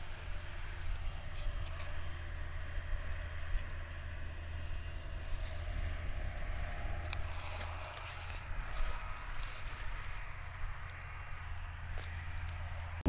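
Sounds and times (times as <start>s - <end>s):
tractor engine under load: 0.0s - 4.6s, 6.6s - 13.0s.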